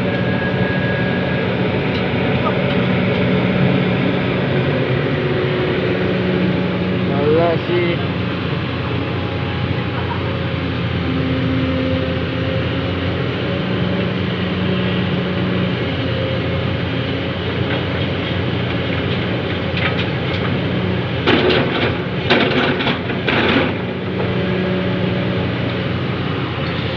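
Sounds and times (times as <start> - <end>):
heavy diesel machinery running: 0.0 - 26.9.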